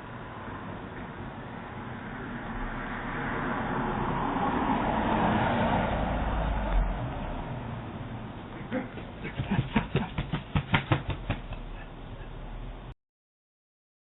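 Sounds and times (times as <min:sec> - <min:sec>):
car passing: 0:00.0 - 0:12.9.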